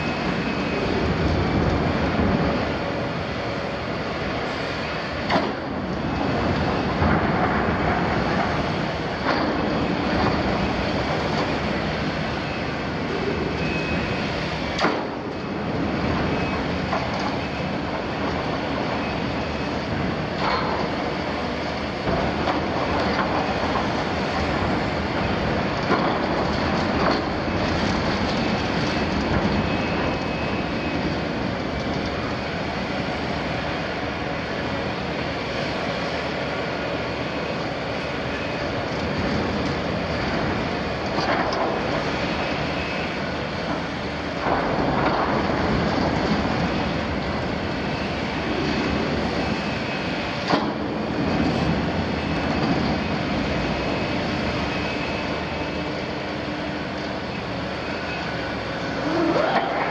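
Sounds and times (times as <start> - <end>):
excavator engine and hydraulic drone: 0.0 - 59.9.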